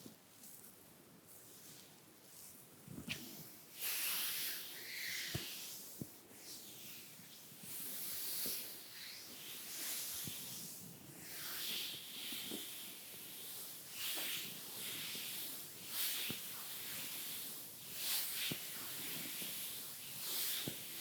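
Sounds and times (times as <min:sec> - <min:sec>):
makeup brushes swishing on skin: 0:00.0 - 0:21.0.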